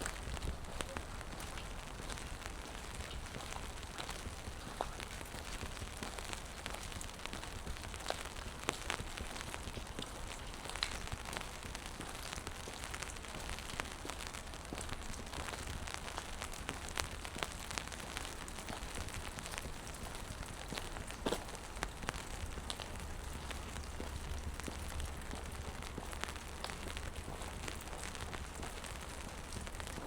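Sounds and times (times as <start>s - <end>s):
rain falling on pavement: 0.0s - 30.0s.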